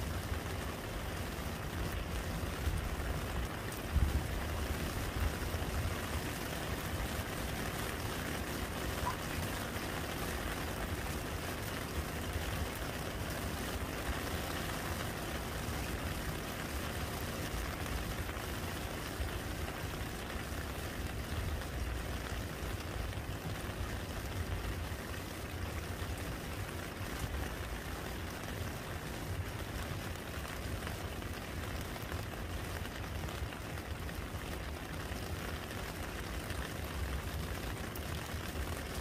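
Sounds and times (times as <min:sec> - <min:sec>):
rain splashing into puddle: 0:00.0 - 0:39.0.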